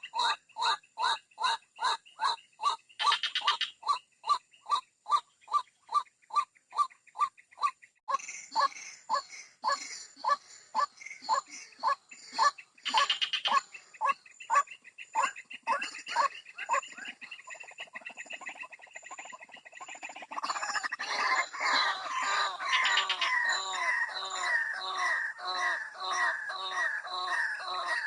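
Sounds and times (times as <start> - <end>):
waterhen calls: 0.0 - 18.7, 20.1 - 28.0.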